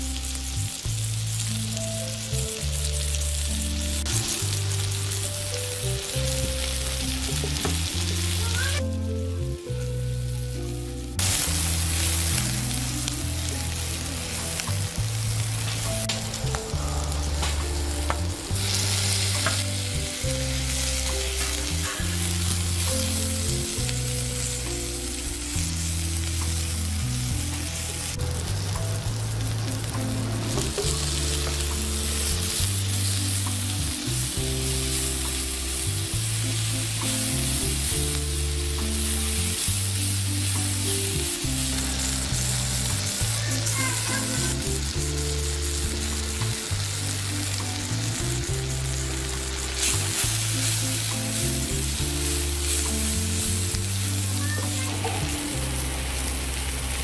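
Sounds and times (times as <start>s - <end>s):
low background music: 0.0s - 57.0s
onions sizzling in hot oil: 0.0s - 57.0s.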